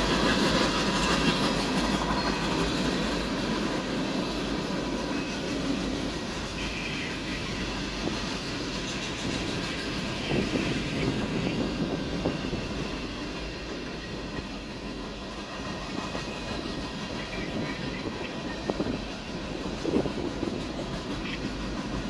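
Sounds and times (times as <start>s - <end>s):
train wheels rumbling on rails: 0.0s - 22.0s
wheels clicking over rail joints: 0.0s - 22.0s.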